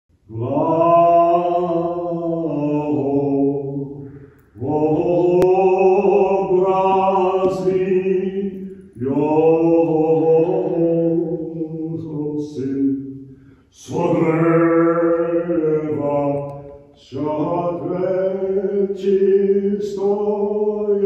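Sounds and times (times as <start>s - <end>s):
slow vocal chant: 0.1s - 21.0s.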